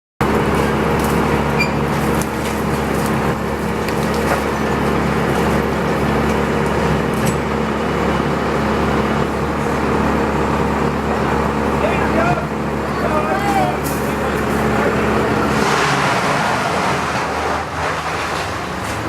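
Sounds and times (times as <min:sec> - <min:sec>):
engine running steadily: 0:00.2 - 0:19.0.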